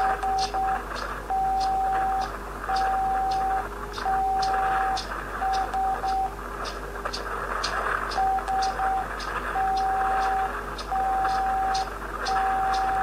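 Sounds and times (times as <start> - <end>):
morse code beeps: 0.0 - 6.4, 8.2 - 13.0
faint crackling ticks: 0.0 - 13.0
radio static hiss: 0.0 - 13.0.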